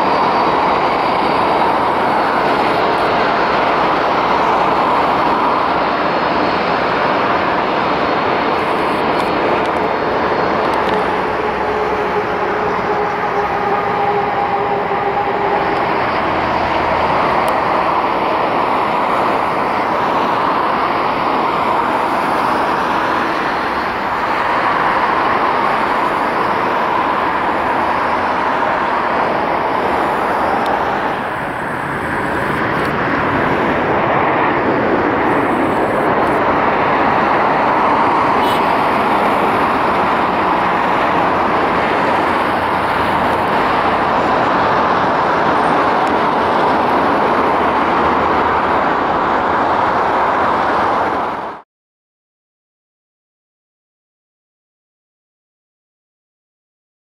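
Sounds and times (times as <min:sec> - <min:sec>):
jet engines landing: 0:00.0 - 0:51.6.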